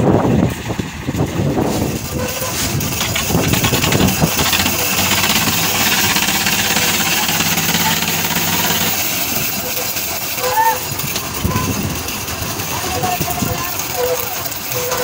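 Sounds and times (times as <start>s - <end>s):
concrete mixer engine drone: 0.0s - 15.0s
mixing clatter: 1.2s - 15.0s.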